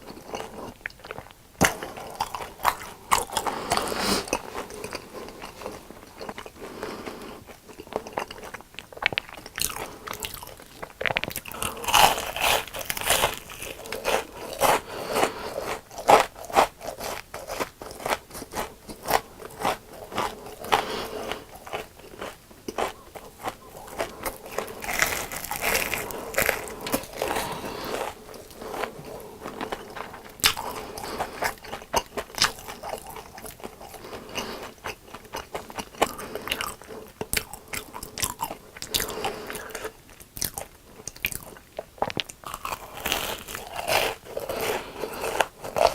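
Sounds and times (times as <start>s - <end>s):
crunchy food being chewed: 0.0s - 45.9s.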